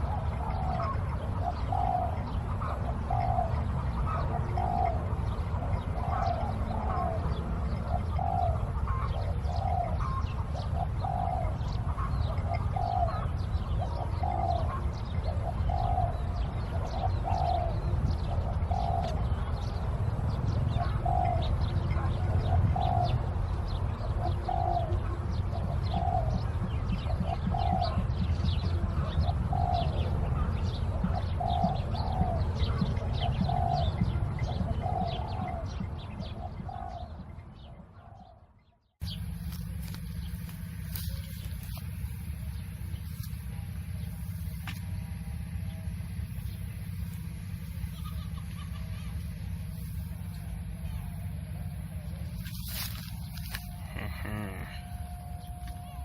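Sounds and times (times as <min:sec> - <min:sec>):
doves cooing: 0:00.0 - 0:38.4, 0:39.0 - 0:56.0
small birds chirping: 0:00.0 - 0:56.0
steady low rumble: 0:00.0 - 0:56.0.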